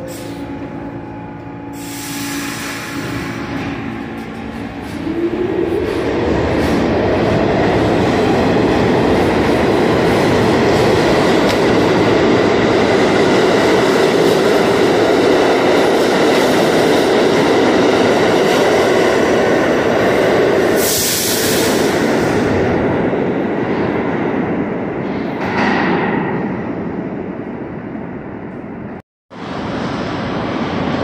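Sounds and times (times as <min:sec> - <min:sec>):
subway train rumbling past: 0:00.0 - 0:31.0.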